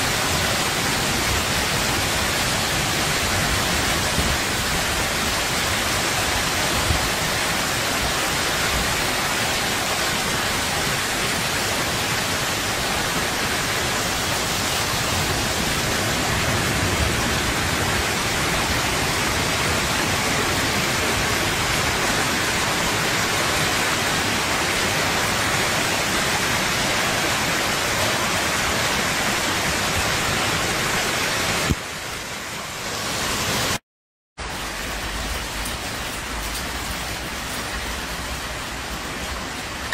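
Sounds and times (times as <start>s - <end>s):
heavy rain pouring: 0.0s - 33.8s, 34.4s - 39.9s.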